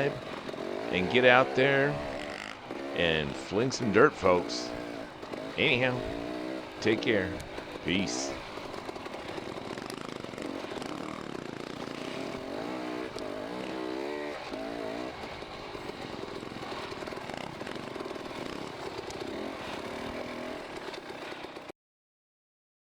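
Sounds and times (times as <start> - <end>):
dirt bike engine revving: 0.0 - 21.7.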